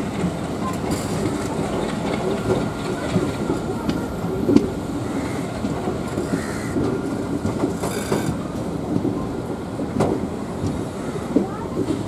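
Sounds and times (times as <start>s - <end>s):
train wheels rumbling on rails: 0.0s - 12.0s
wheels clacking over rail joints: 0.0s - 12.0s.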